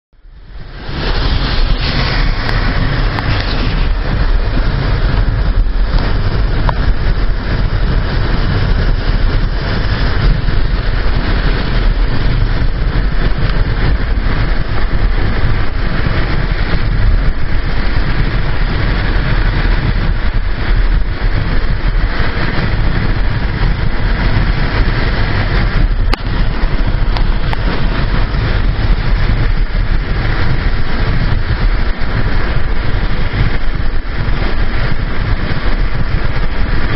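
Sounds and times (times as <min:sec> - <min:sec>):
strong wind buffeting microphone: 0:00.2 - 0:36.9.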